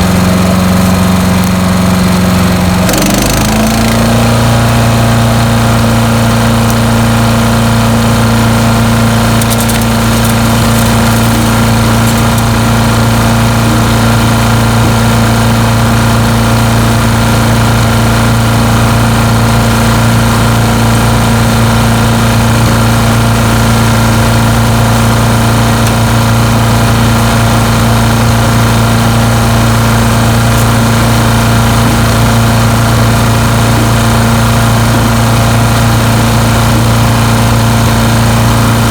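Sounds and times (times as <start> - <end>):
petrol engine humming: 0.0 - 38.9.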